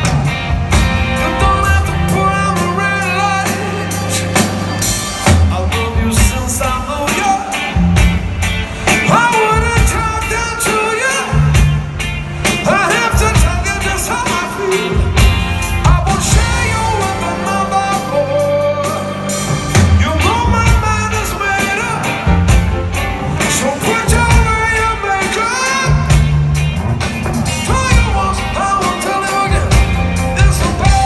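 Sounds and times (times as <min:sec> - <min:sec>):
live rock band playing: 0:00.0 - 0:31.0
man singing: 0:01.1 - 0:08.0, 0:08.9 - 0:11.8, 0:12.4 - 0:22.5, 0:23.3 - 0:26.3, 0:27.4 - 0:31.0.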